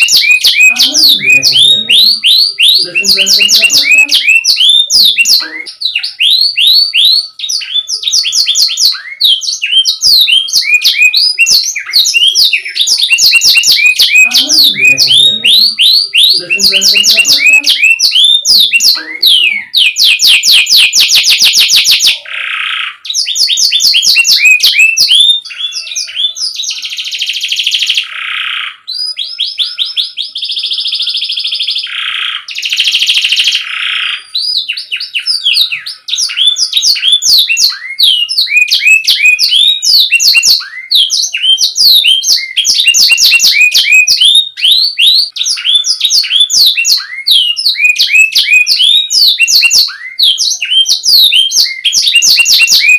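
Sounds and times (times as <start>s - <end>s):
canary singing trills and chirps: 0.0s - 52.9s.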